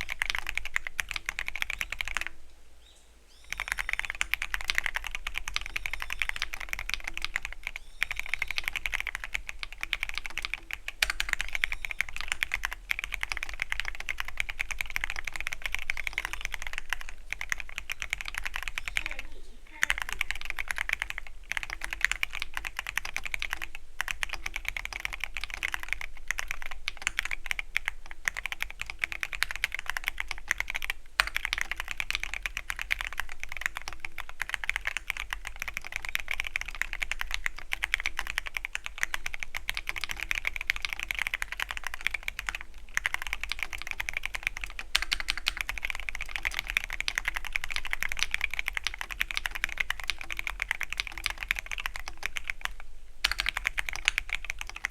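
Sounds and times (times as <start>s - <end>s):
fast mechanical keyboard typing: 0.0s - 2.4s, 3.5s - 54.9s.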